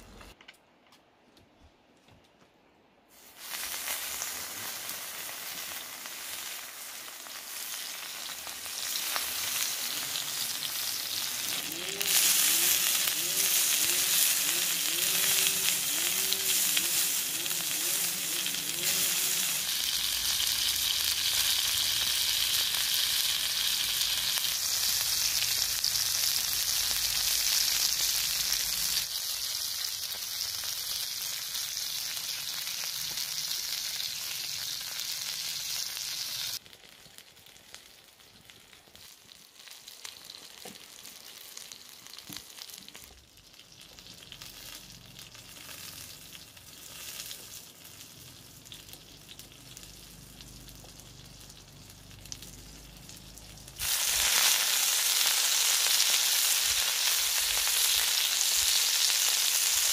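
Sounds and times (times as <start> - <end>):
larvae sizzling on hot stone: 3.1 - 59.9.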